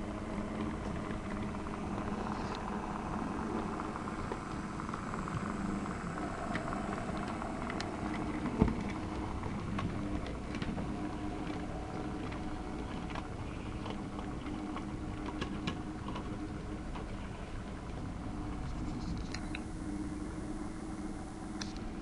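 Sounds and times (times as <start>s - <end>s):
model train humming: 0.0s - 22.0s.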